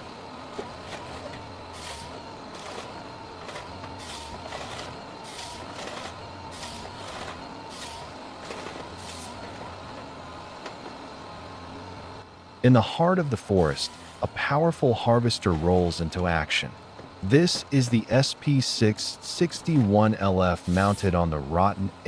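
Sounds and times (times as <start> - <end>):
heavy machine engine drone: 0.0 - 22.0.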